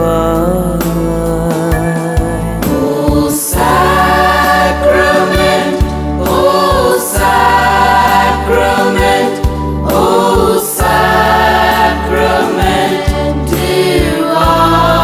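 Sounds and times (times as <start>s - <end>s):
instrumental accompaniment with beat: 0.7s - 15.0s
choir singing: 2.6s - 15.0s.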